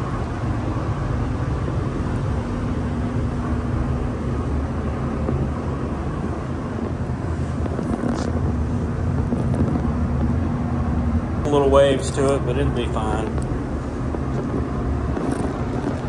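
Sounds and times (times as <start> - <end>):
constant low hum: 0.0 - 16.0
ventilation fans rushing air: 0.0 - 16.0.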